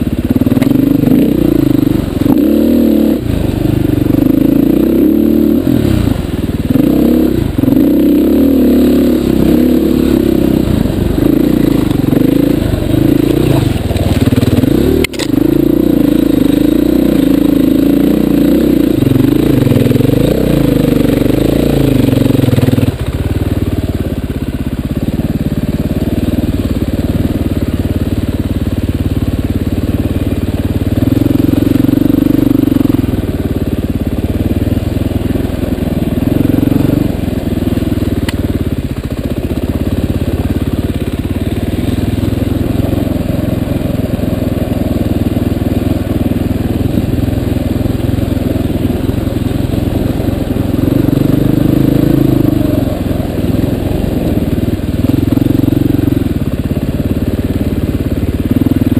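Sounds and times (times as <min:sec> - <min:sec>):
dirt bike engine revving: 0:00.0 - 0:38.3, 0:40.3 - 0:58.9.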